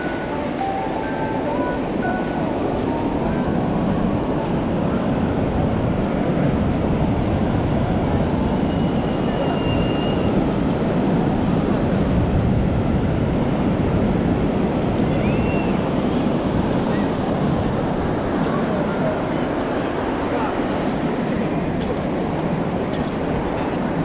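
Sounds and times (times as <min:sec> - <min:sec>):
ocean surf: 0:00.0 - 0:24.0
wind buffeting microphone: 0:00.0 - 0:24.0.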